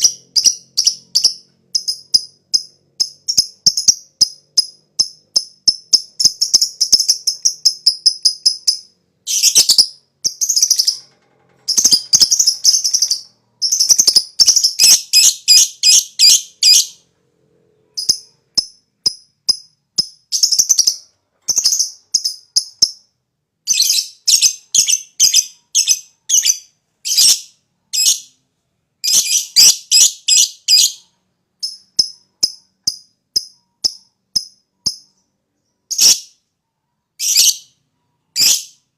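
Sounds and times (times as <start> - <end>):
lovebird shrill chirps: 0.0 - 11.1, 11.7 - 17.0, 18.0 - 23.1, 23.7 - 28.3, 29.0 - 35.2, 35.9 - 36.4, 37.2 - 38.9.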